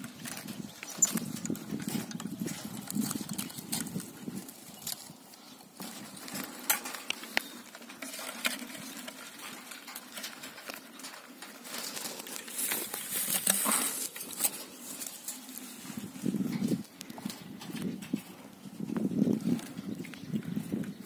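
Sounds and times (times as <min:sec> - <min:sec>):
wire trap rattling: 0:00.3 - 0:05.2, 0:05.8 - 0:18.4.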